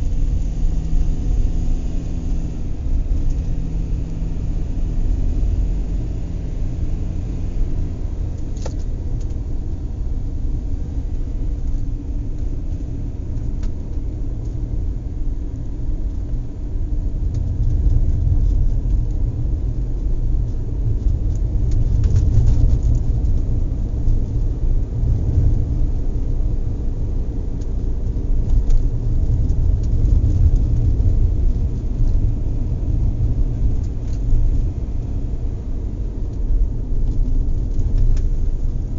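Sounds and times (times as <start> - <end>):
car engine and tyres rumble: 0.0 - 38.9.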